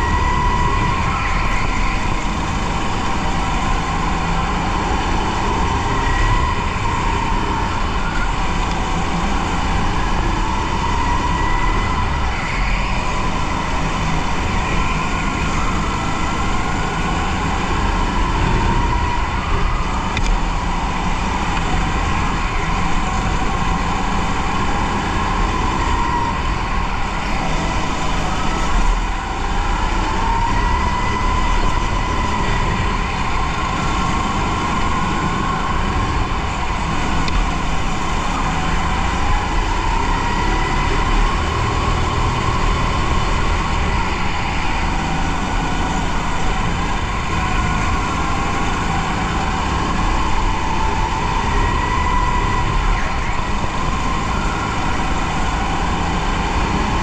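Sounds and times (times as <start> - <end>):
racing kart engine: 0.0 - 57.0.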